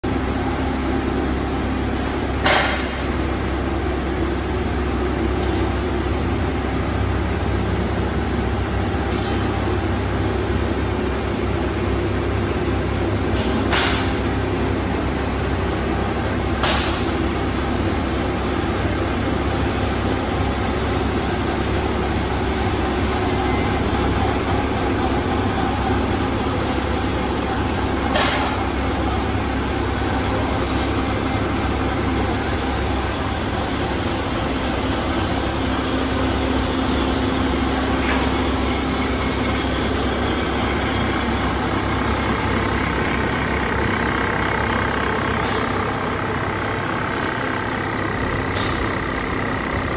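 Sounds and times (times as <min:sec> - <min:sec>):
printing press humming: 0:00.0 - 0:49.9.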